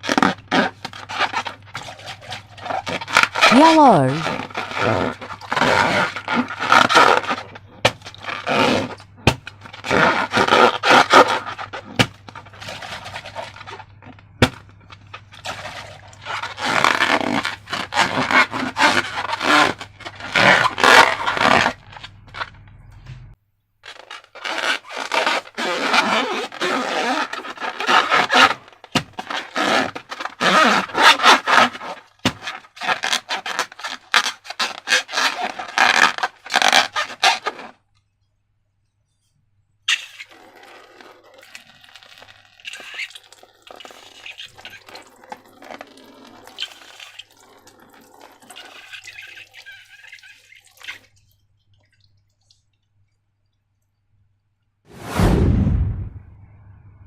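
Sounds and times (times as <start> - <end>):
slime scraping and crackling: 0.0 - 22.7, 23.8 - 37.8, 39.9 - 51.1.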